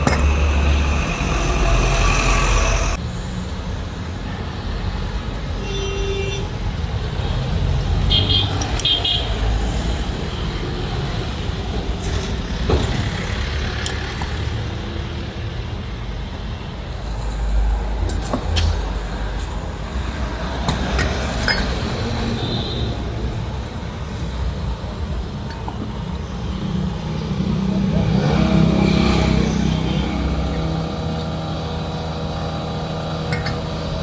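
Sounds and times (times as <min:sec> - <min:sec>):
low rumble of vehicles: 0:00.0 - 0:34.0.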